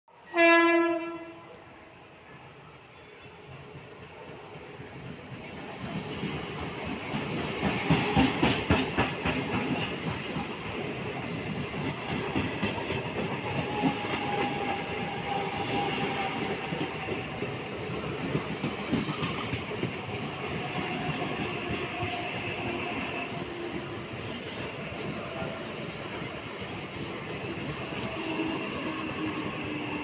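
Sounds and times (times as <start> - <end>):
train wheels clattering: 5.0 - 30.0.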